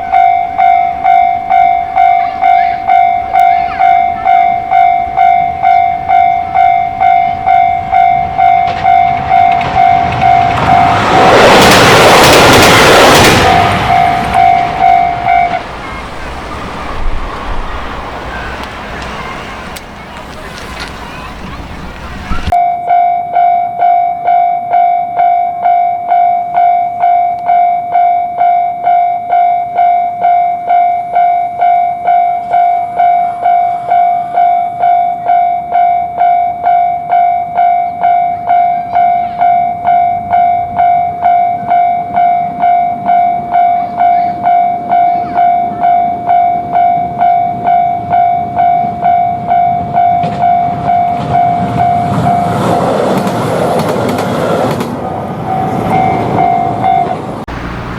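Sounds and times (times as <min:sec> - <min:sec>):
train rushing: 0:00.0 - 0:22.6, 0:30.1 - 0:57.9
level crossing warning bell: 0:00.0 - 0:53.2, 0:55.4 - 0:57.9.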